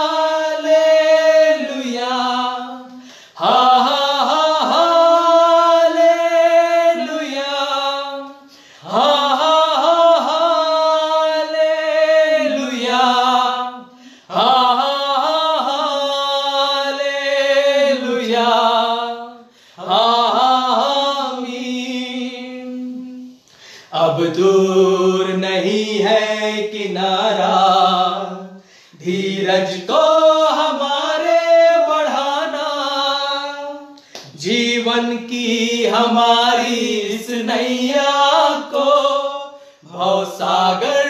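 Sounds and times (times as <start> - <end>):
men singing a cappella: 0.0 - 41.0.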